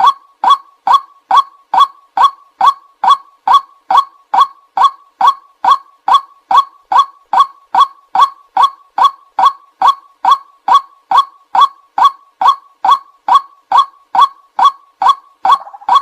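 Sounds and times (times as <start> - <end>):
waterhen call: 0.0 - 16.0.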